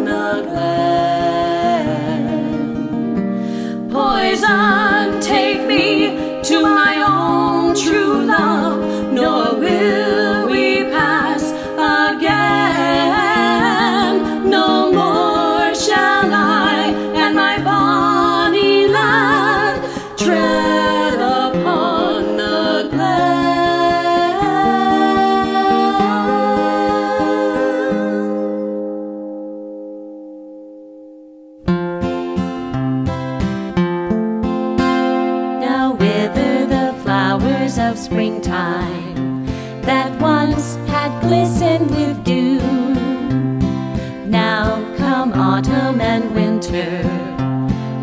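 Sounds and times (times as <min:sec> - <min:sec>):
person singing with vibrato: 0:00.0 - 0:02.8, 0:03.6 - 0:29.0, 0:35.5 - 0:48.0
held harmony notes: 0:01.9 - 0:48.0.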